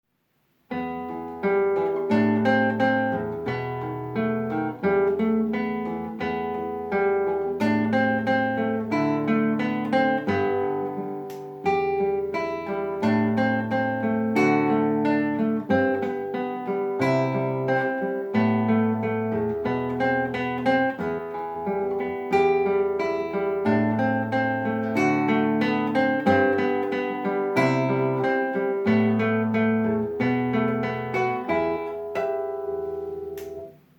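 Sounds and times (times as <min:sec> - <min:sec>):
solo acoustic guitar: 0:00.3 - 0:33.9.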